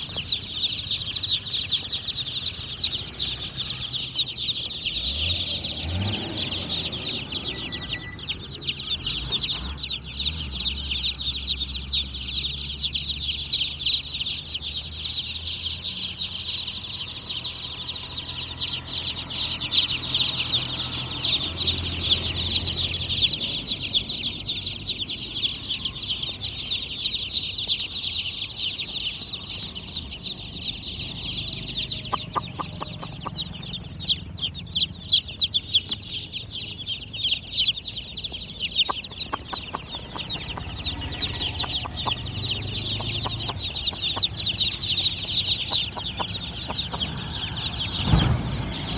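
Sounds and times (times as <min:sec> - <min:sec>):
baby chicks peeping: 0:00.0 - 0:48.9.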